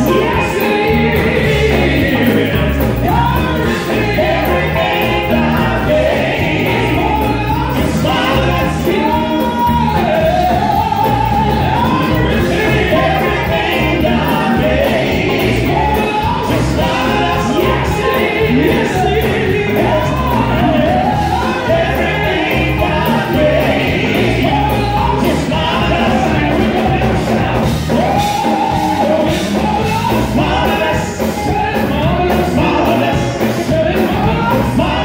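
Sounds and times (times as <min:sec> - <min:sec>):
backing vocals: 0:00.0 - 0:35.0
drums: 0:00.0 - 0:35.0
keyboard: 0:00.0 - 0:35.0
lead singer's amplified voice: 0:00.0 - 0:35.0.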